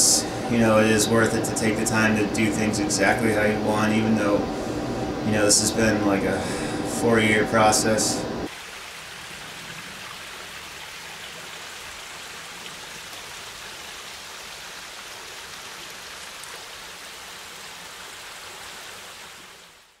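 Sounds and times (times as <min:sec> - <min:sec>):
creek water rushing: 0:00.0 - 0:19.9.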